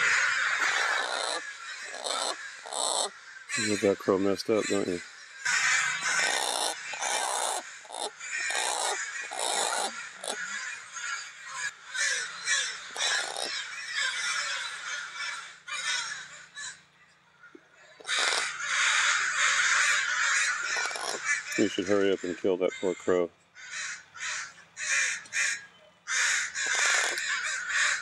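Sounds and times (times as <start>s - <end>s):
crows cawing harshly: 0.0s - 28.0s.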